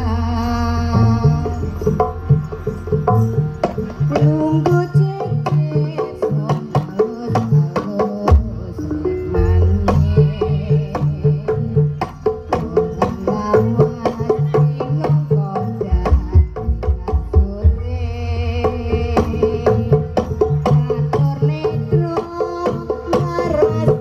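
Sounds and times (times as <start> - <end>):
gong and metallophone tones: 0.0 - 24.0
fast hand-drum patterns: 1.0 - 24.0.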